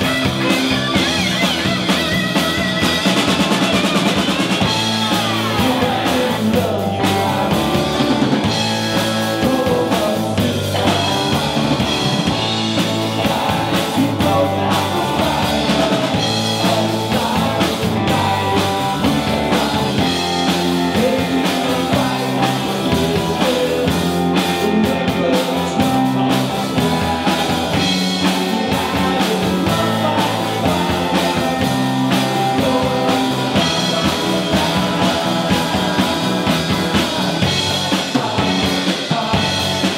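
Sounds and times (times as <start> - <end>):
bass guitar: 0.0 - 39.9
drum kit: 0.0 - 39.9
electric guitar: 0.0 - 39.9
keyboard: 0.0 - 39.9.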